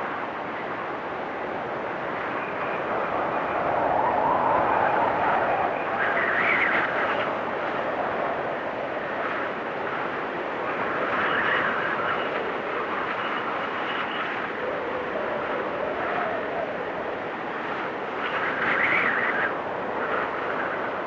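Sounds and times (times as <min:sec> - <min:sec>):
blizzard wind whistling: 0:00.0 - 0:21.0.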